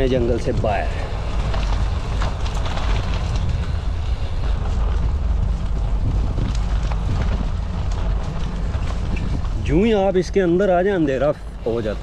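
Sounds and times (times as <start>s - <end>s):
bicycle rattling on dirt track: 0.0s - 12.0s
wind buffeting microphone: 0.0s - 12.0s.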